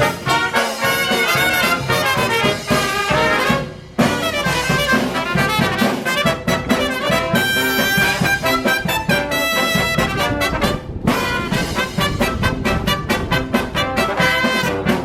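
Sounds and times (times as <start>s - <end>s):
brass band playing upbeat tune: 0.0s - 15.0s.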